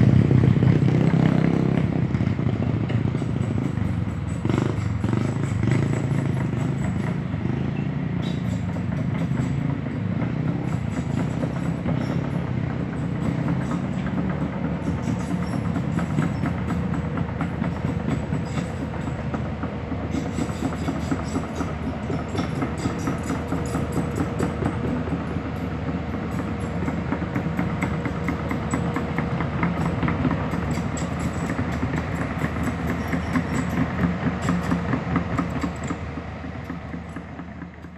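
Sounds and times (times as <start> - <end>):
excavator diesel engine running: 0.0 - 37.9
rattling metallic clatter: 2.1 - 37.9.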